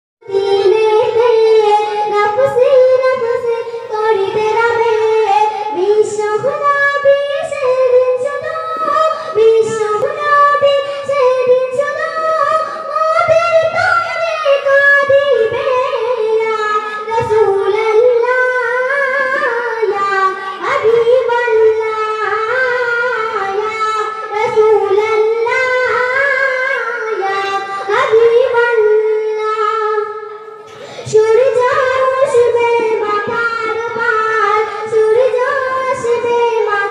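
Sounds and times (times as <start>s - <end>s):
girl singing into microphone: 0.2s - 36.9s.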